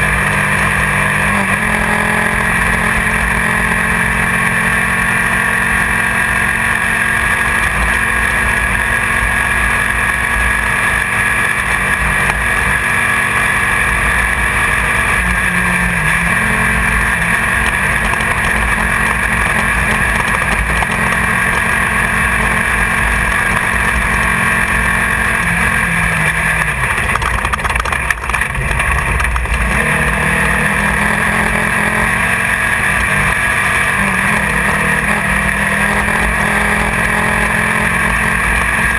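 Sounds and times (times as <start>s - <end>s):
race buggy engine under load: 0.0s - 38.9s
steady rush of noise: 2.3s - 38.9s.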